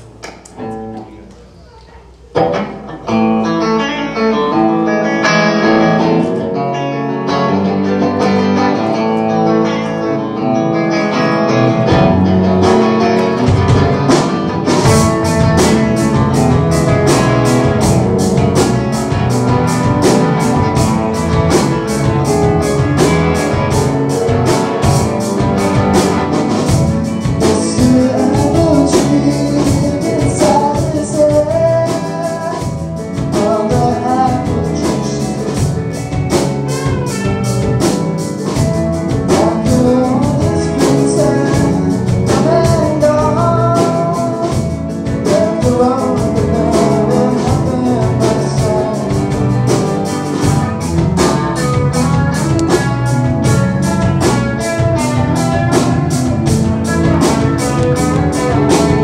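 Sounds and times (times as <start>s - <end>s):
live rock band playing: 2.1s - 59.0s.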